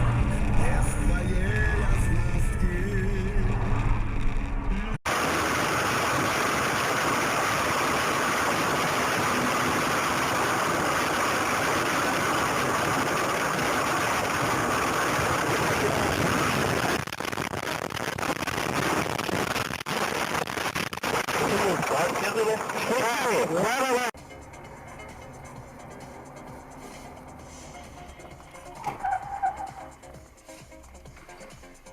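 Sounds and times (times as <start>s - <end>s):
car road and engine noise: 0.0s - 31.9s.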